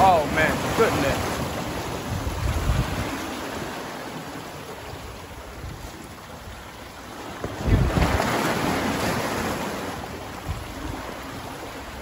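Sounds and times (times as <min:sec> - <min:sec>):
wave washing against rocks: 0:00.0 - 0:12.0
wind rumbling on microphone: 0:01.2 - 0:04.0, 0:04.7 - 0:12.0.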